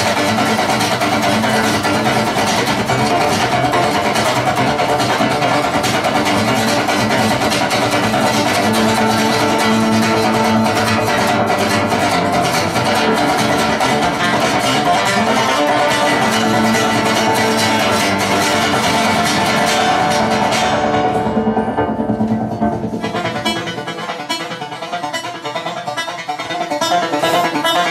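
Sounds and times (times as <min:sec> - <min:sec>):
acoustic guitar strumming: 0:00.0 - 0:27.9.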